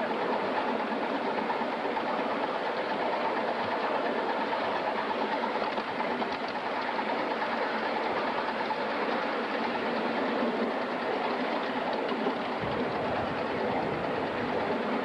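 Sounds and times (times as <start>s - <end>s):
steam locomotive rushing: 0.0s - 15.0s.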